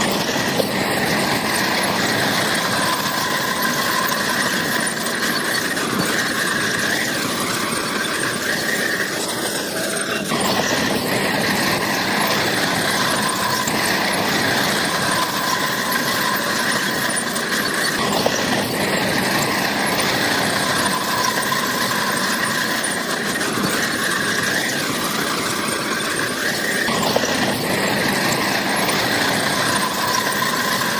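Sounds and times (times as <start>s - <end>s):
diesel engine running: 0.0s - 30.9s
steel tracks squealing: 0.0s - 30.9s.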